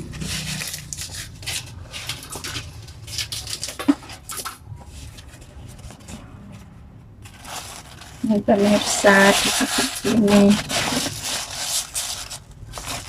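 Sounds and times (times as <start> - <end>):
leaves rustling and crinkling: 0.0 - 13.0.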